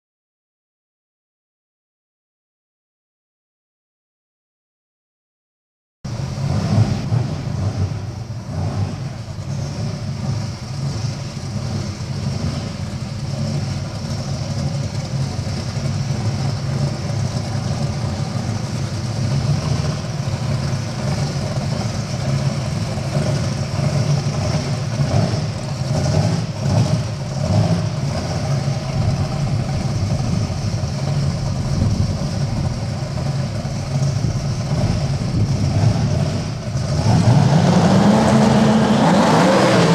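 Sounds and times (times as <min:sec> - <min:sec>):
car engine idling loudly: 0:06.1 - 0:39.9
engine throttle blips: 0:06.1 - 0:39.9.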